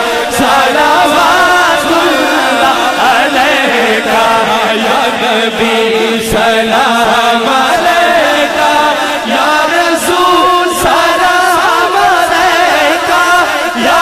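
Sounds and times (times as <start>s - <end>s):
man singing into microphone: 0.0s - 14.0s
voices chanting along: 0.0s - 14.0s.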